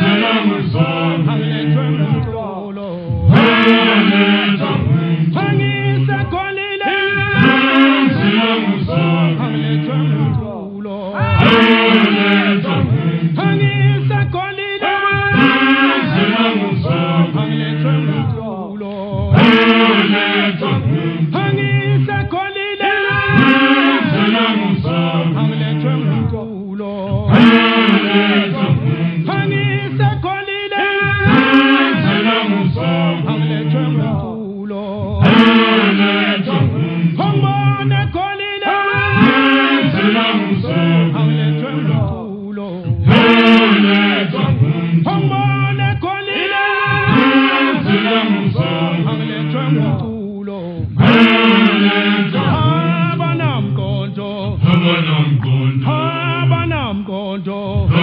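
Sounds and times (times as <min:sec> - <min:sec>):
male choir singing unaccompanied: 0:00.0 - 0:58.0.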